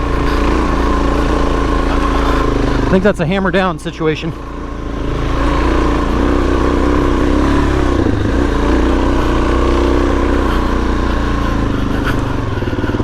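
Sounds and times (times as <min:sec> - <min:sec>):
motorcycle engine under open throttle: 0:00.0 - 0:13.0.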